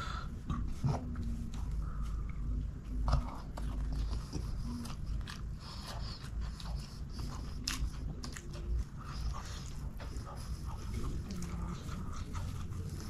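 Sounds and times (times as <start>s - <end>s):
man chewing: 0.0s - 13.0s.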